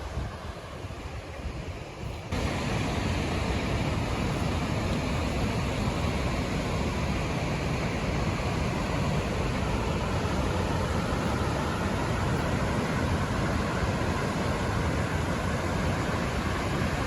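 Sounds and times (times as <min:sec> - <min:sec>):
water rushing with steady roar: 0:00.0 - 0:17.0.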